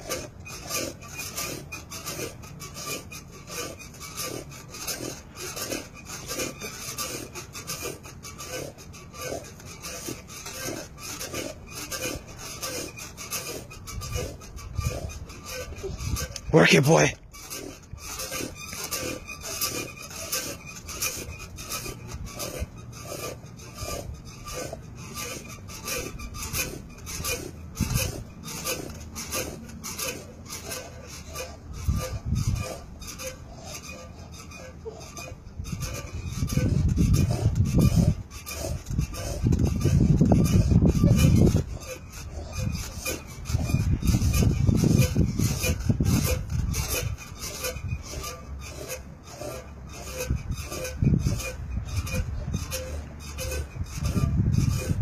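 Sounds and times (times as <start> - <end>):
rhythmic scraping of tire and rope: 0.0 - 55.0.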